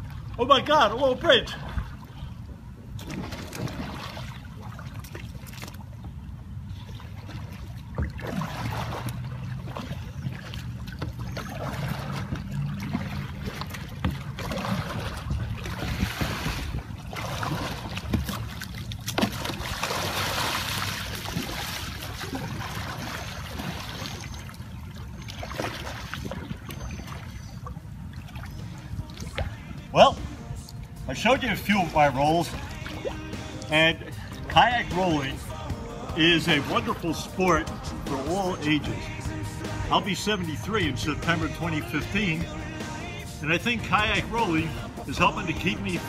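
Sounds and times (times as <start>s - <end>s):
water splashing around kayak: 0.0s - 46.0s.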